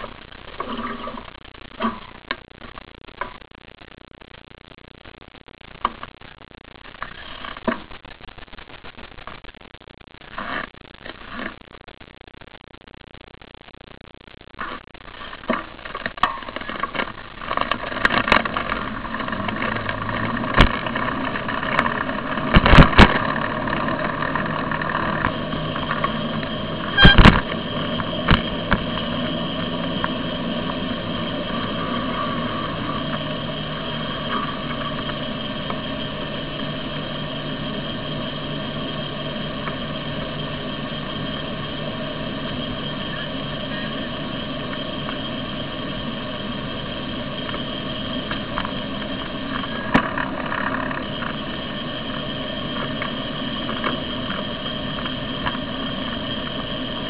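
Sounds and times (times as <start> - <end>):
riding hum: 0.0 - 12.0, 14.5 - 57.0.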